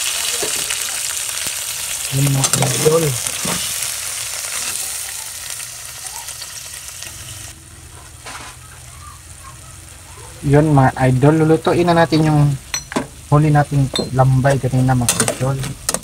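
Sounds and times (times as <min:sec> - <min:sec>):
crabs sizzling in a pot: 0:00.0 - 0:16.0.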